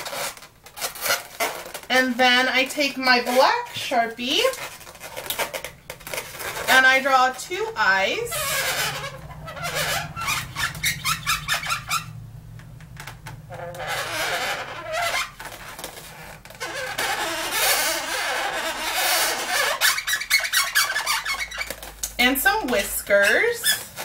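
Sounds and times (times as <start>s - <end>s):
marker squeaking on balloon: 0.0s - 12.2s, 12.9s - 22.0s, 22.7s - 24.0s.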